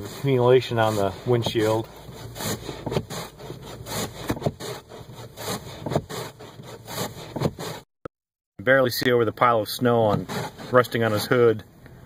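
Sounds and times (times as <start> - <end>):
snow scraping off windshield: 0.0 - 7.8, 9.7 - 11.6.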